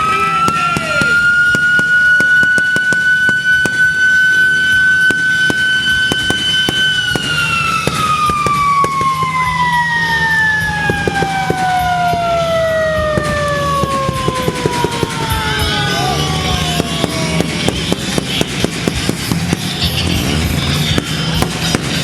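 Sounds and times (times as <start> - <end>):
siren winding down: 0.0 - 22.0.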